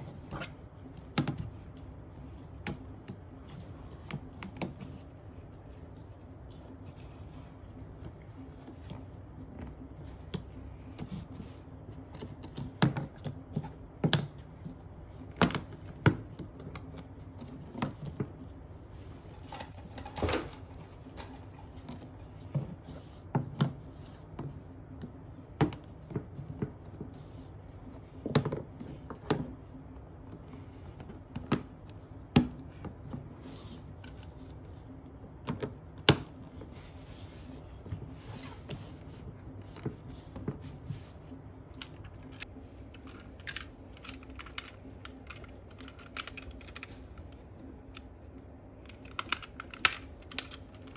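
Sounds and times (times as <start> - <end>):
faint steady hum: 0.0 - 50.9.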